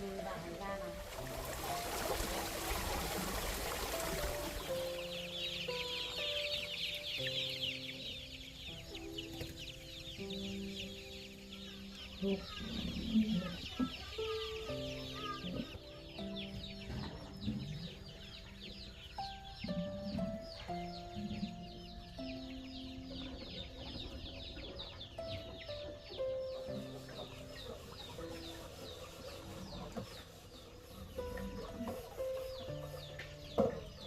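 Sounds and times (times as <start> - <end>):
background music sustained notes: 0.0 - 34.0
chickens clucking: 0.0 - 34.0
chicks peeping: 0.0 - 34.0.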